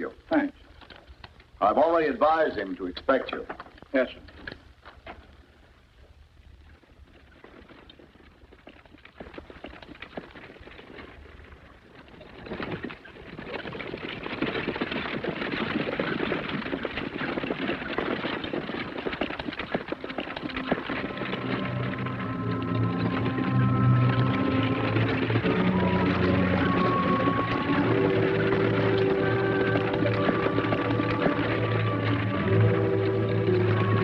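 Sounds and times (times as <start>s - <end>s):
galloping horse hoofbeats: 0.0s - 34.0s.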